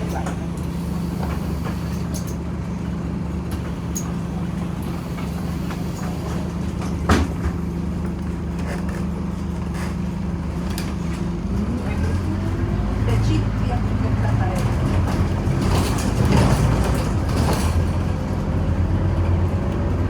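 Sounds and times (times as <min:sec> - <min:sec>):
bus diesel engine humming: 0:00.0 - 0:20.0.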